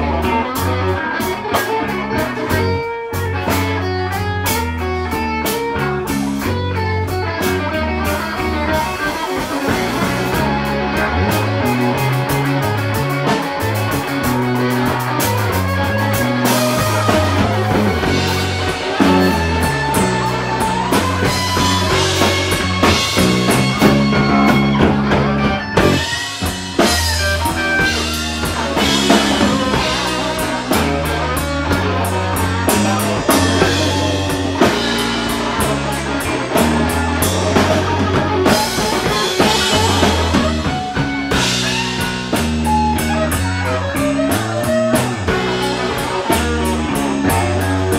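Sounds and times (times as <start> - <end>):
bass guitar: 0.0 - 47.9
drum kit: 0.0 - 47.9
electric guitar lead: 0.0 - 47.9.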